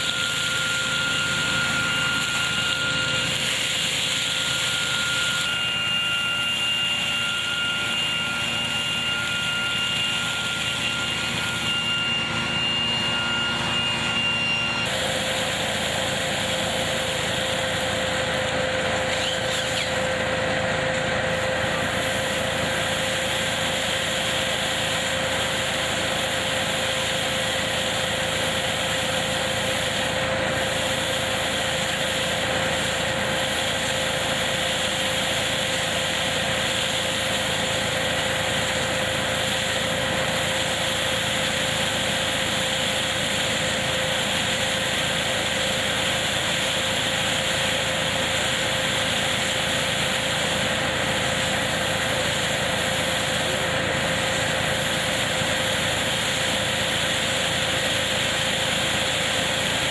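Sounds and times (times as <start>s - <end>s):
harvesting machine running: 0.0s - 59.9s.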